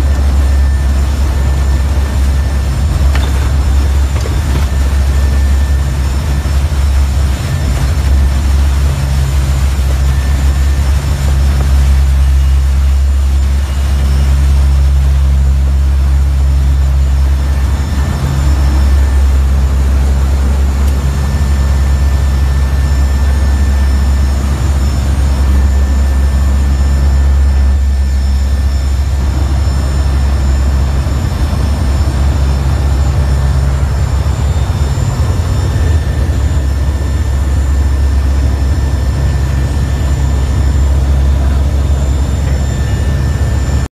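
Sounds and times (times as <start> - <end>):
aircraft engine hum: 0.0 - 43.9.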